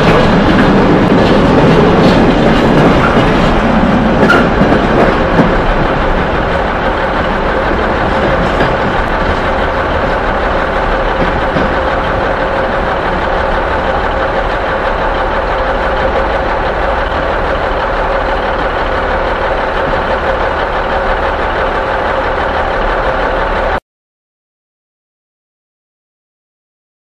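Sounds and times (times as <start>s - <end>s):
diesel engine running: 0.0s - 23.8s.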